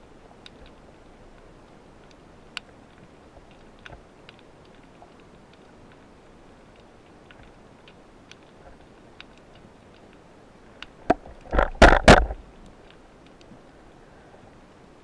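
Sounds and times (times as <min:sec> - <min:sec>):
faint underwater clicks: 0:00.2 - 0:13.9.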